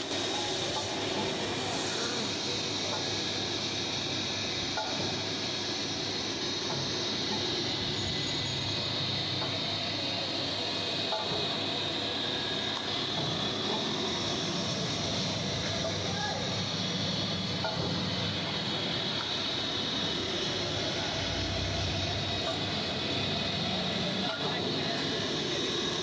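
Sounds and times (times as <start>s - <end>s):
griddle cooking noise: 0.0s - 26.0s.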